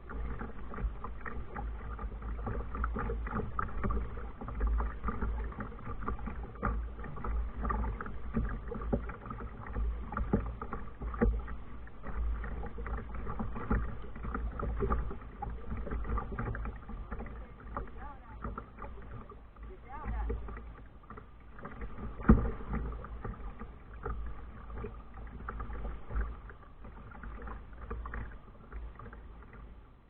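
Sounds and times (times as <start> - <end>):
paddle strokes: 0.0 - 30.0
water splashing against hull: 0.0 - 30.0.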